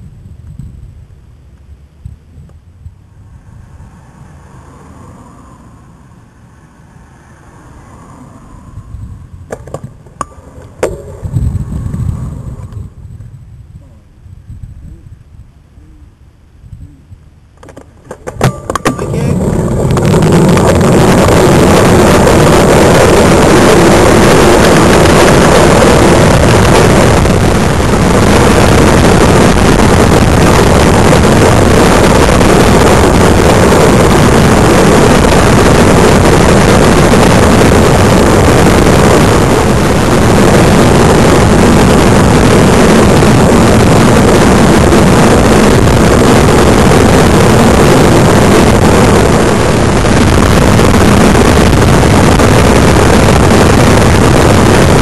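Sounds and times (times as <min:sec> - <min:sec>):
wind buffeting microphone: 0:00.0 - 0:06.4, 0:07.5 - 0:55.0
road noise: 0:00.0 - 0:55.0.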